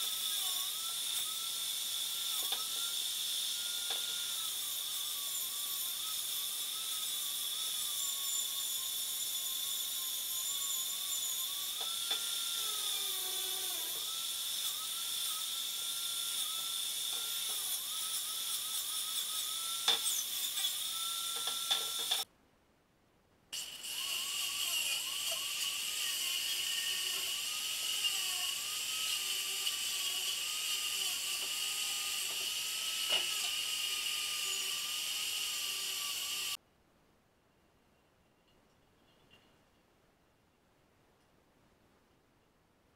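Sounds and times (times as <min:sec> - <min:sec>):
angle grinder whining: 0:00.0 - 0:22.3, 0:23.6 - 0:36.6.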